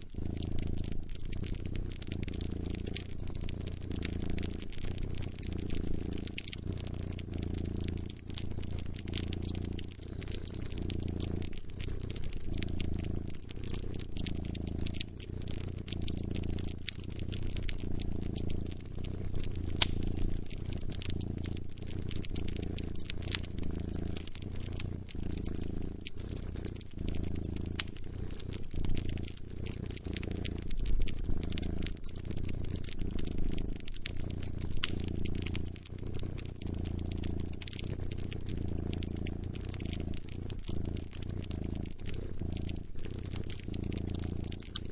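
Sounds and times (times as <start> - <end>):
cat purring: 0.0 - 44.9
wood fire crackling: 0.0 - 44.9.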